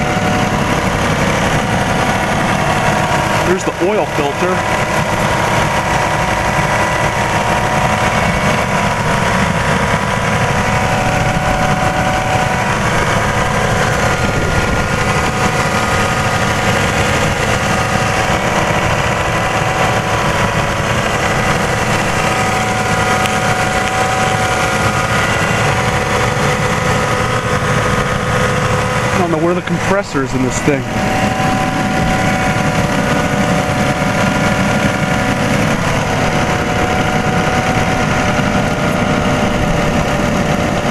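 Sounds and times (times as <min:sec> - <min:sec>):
car engine idling: 0:00.0 - 0:40.9
whining tones: 0:00.0 - 0:40.9.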